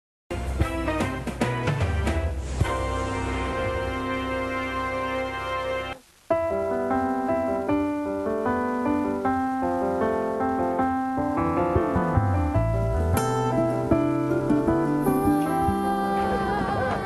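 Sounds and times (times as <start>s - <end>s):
piano-like keyboard melody: 0.3s - 17.0s.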